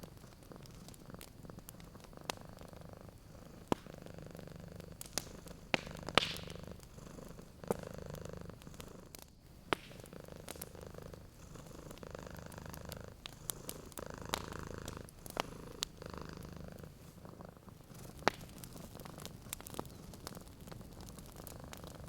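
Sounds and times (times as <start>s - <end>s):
cat purring: 0.0s - 22.0s
wood fire crackling: 0.0s - 22.0s.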